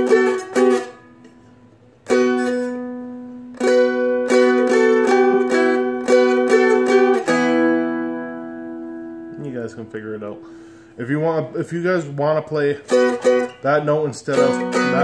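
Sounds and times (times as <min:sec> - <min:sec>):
strummed string instrument: 0:00.0 - 0:15.0.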